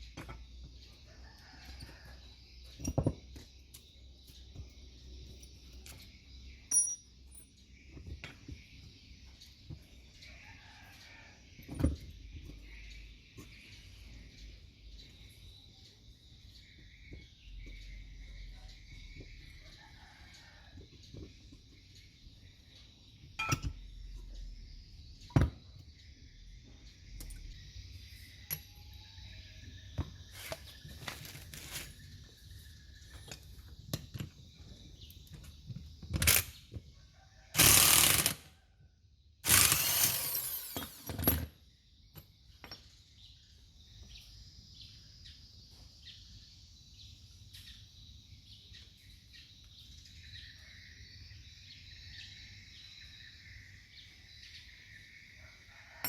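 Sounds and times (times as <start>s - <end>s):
insects chirring: 0.0s - 38.7s, 39.4s - 56.0s.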